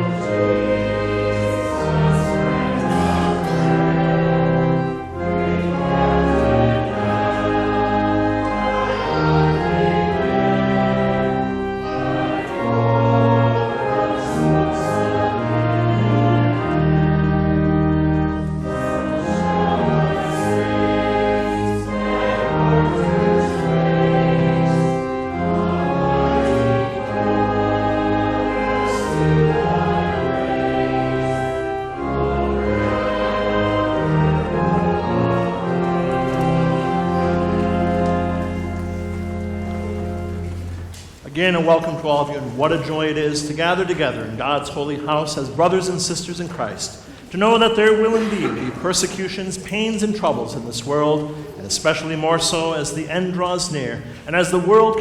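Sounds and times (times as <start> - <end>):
held accompaniment chords: 0.0 - 55.0
voices singing a hymn: 0.0 - 55.0.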